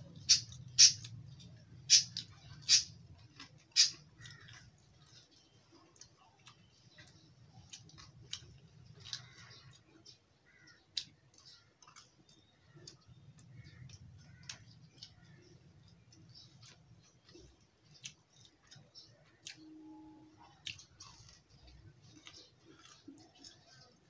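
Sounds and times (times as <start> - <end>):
crunching and chewing fried food: 0.0 - 24.0.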